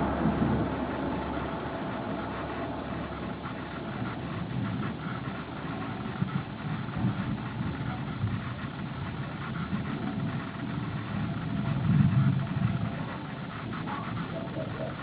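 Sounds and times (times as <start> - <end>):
faint low hum: 0.0 - 15.0
storm noise: 0.0 - 15.0
thunder rumbling: 0.0 - 15.0.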